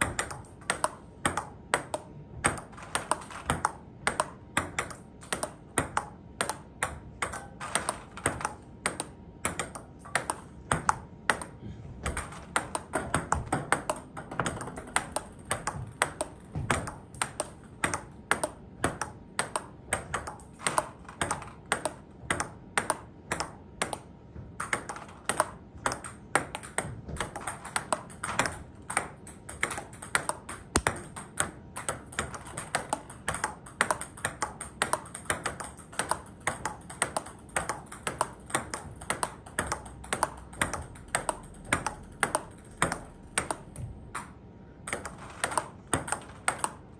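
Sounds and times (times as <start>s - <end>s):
ball bouncing on table: 0.0s - 46.8s
ping pong ball clicking off rackets: 0.0s - 46.9s.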